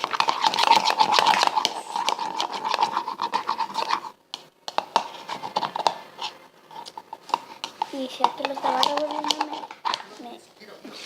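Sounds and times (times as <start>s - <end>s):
stirrer scraping container: 0.0s - 10.4s.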